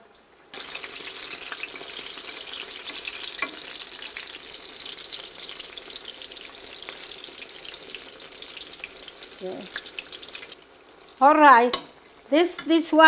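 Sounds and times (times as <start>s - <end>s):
vegetable slices frying in oil: 0.2s - 13.0s.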